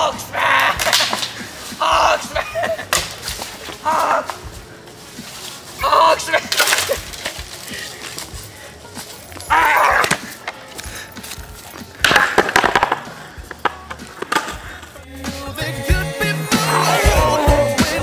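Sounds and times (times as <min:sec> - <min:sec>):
music: 0:00.0 - 0:18.0.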